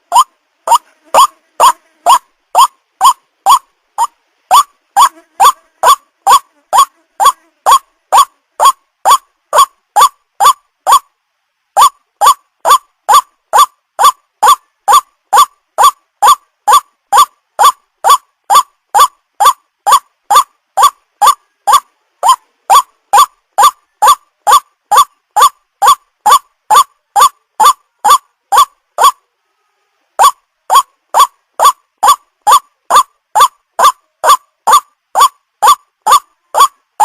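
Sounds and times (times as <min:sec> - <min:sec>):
waterhen calling: 0:00.0 - 0:11.1, 0:11.8 - 0:29.2, 0:30.2 - 0:37.0.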